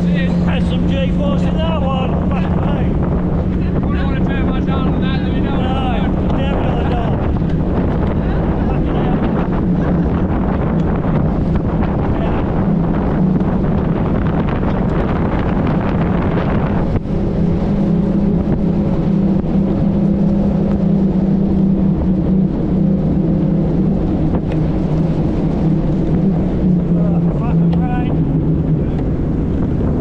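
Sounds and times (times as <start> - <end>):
outboard motor running: 0.0 - 30.0
water along hull: 0.0 - 30.0
wind on microphone: 0.0 - 30.0.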